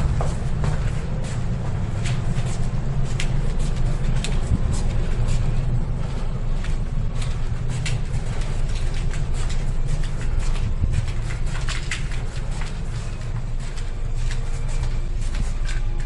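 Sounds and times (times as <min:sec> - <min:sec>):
ship engines rumbling: 0:00.0 - 0:16.0.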